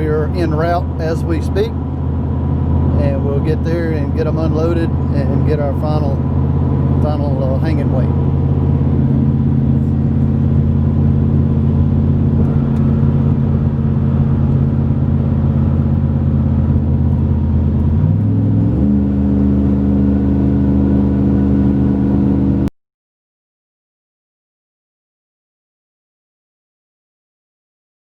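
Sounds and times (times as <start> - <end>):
vehicle engine and road noise: 0.0 - 22.7.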